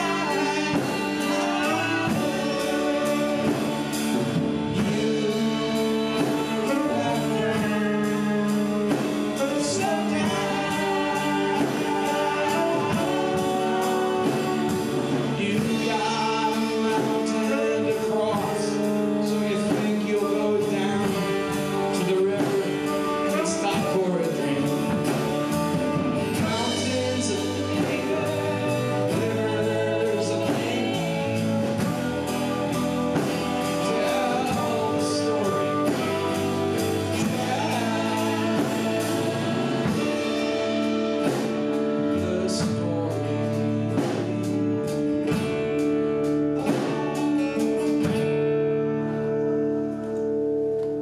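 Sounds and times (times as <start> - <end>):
saxophone: 0.0 - 48.0
person singing: 0.0 - 48.3
drums beat: 0.0 - 48.6
live rock band playing: 0.0 - 51.0.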